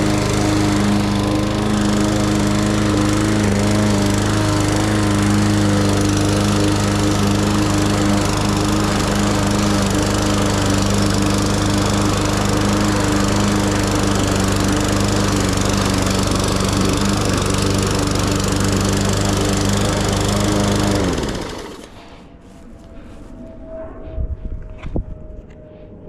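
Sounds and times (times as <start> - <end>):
lawn mower engine running: 0.0 - 22.2.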